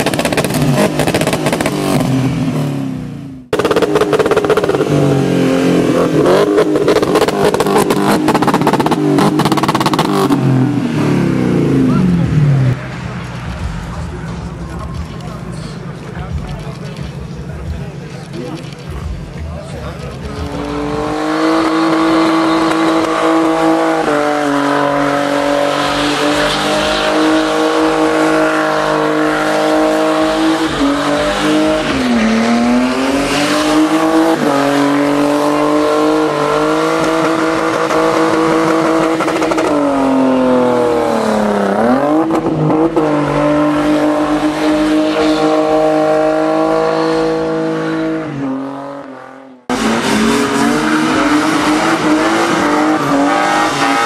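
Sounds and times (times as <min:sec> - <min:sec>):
car engine revving high: 0:00.0 - 0:16.0, 0:20.1 - 0:54.0.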